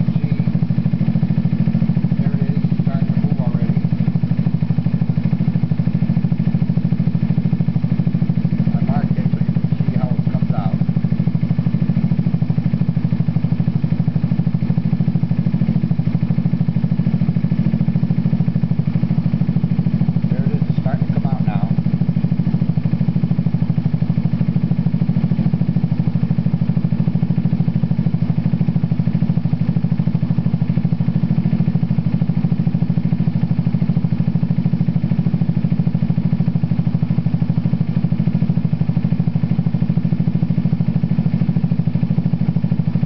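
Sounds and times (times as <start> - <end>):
scooter engine idling: 0.0 - 43.0.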